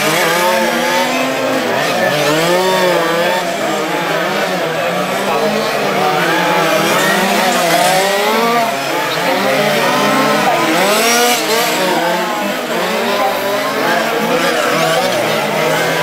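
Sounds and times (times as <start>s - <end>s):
rc car engines revving: 0.0s - 16.0s.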